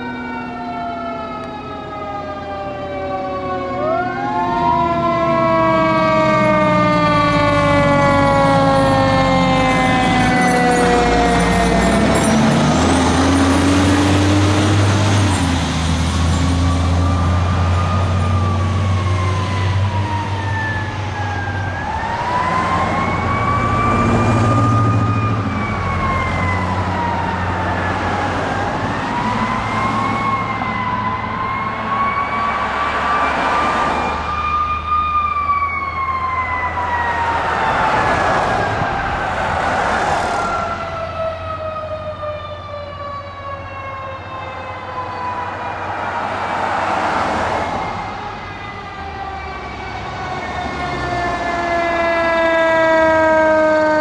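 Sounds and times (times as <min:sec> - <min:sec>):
truck engine rumble: 0:00.0 - 0:54.0
wailing siren: 0:00.0 - 0:54.0.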